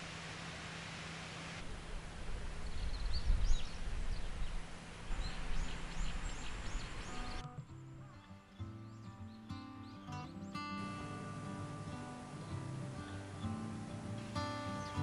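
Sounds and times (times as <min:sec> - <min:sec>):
small birds chirping: 0:02.4 - 0:15.0.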